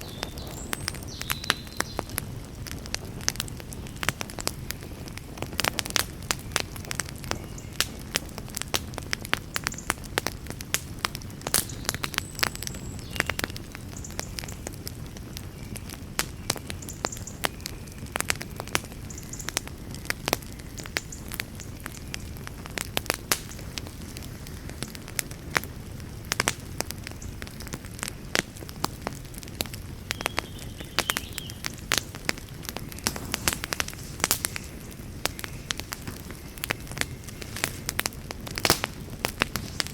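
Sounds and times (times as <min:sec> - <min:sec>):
fire crackles and pops: 0:00.0 - 0:39.9
fire rushing flame: 0:00.0 - 0:39.9.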